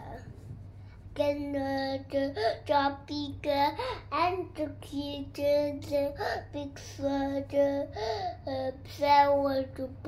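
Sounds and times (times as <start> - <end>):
child singing: 1.2 - 10.0.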